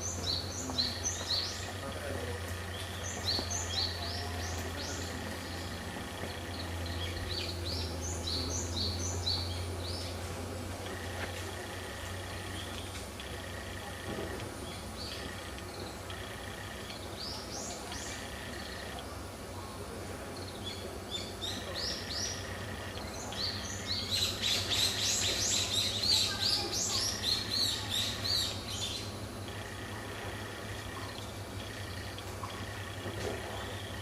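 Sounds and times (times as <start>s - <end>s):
birds chirping: 0.0s - 34.0s
steady low hum: 0.0s - 34.0s.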